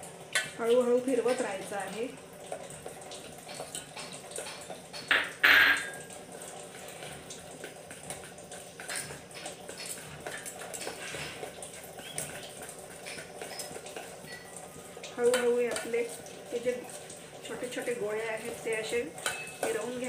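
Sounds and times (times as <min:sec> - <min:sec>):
spoon stirring batter in metal pot: 0:00.3 - 0:05.2, 0:06.3 - 0:20.0.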